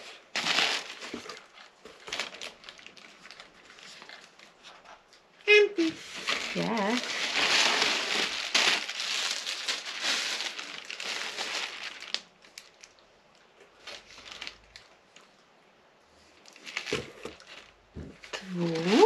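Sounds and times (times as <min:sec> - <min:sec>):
packaging crinkling and tearing: 0:00.0 - 0:05.0, 0:06.0 - 0:15.3, 0:16.4 - 0:19.0.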